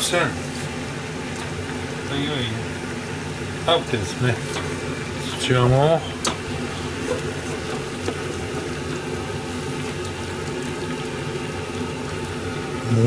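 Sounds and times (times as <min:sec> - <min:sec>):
gas burners hissing and humming: 0:00.0 - 0:13.0.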